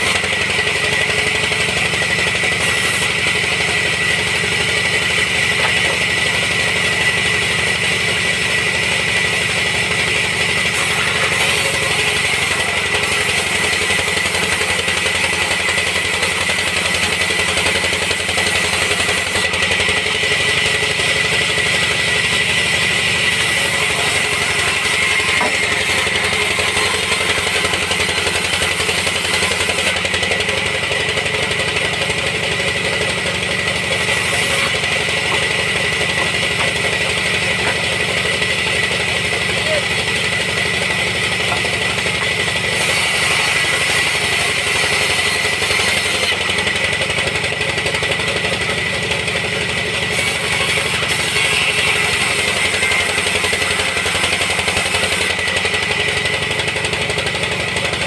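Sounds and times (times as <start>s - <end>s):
sawmill machinery drone: 0.0s - 58.0s.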